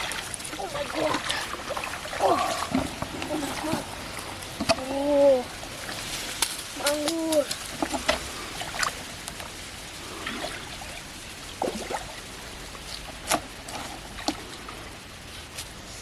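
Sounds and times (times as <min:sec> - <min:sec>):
water trickling and splashing: 0:00.0 - 0:16.0.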